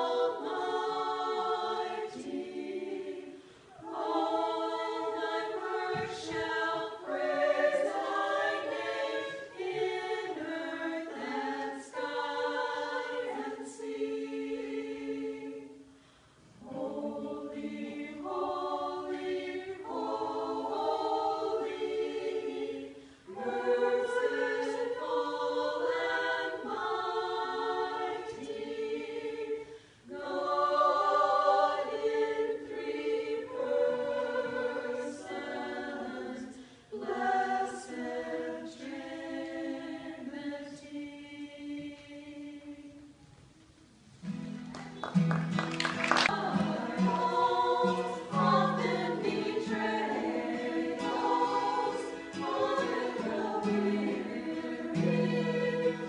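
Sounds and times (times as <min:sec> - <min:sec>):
women's vocal group singing: 0:00.0 - 0:15.9, 0:16.6 - 0:43.2, 0:45.1 - 0:56.0.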